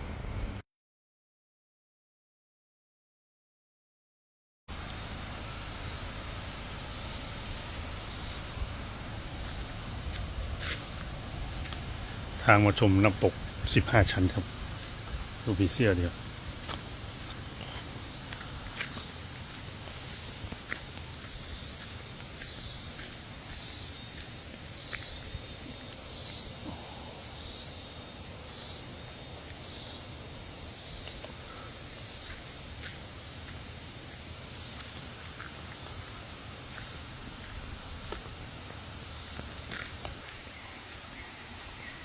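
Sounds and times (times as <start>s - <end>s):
insect pulsing call: 4.7s - 42.0s
insects high-pitched whine: 4.7s - 42.0s.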